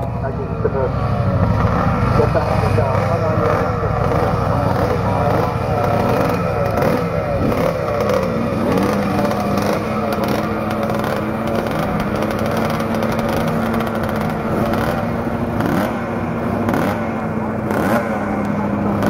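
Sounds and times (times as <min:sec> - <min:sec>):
engine holding steady note: 0:00.0 - 0:19.0
racing motorcycle engines: 0:00.0 - 0:19.0.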